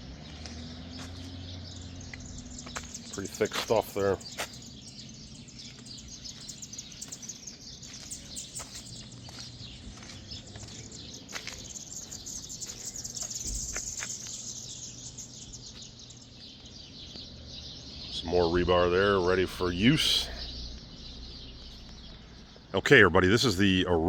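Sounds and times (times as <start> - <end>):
bird chirps: 0.0 - 24.0
insects chirping: 0.0 - 24.0.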